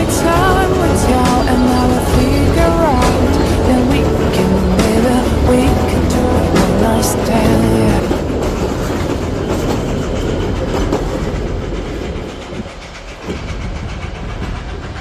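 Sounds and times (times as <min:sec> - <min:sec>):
steam train wheels clattering: 0:00.0 - 0:15.0.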